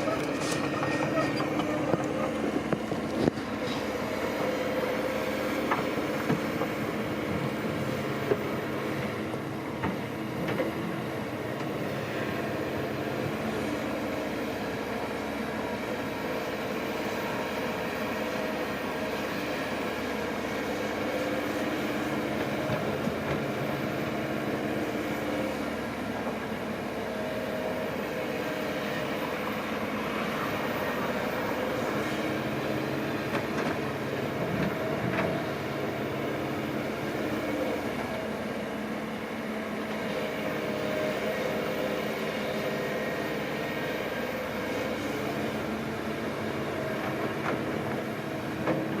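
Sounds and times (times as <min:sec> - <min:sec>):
heavy machinery diesel engine: 0:00.0 - 0:49.0.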